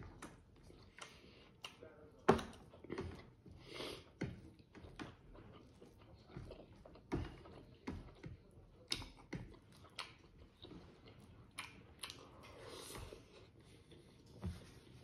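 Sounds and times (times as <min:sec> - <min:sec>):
close-up chewing: 0:00.0 - 0:15.0.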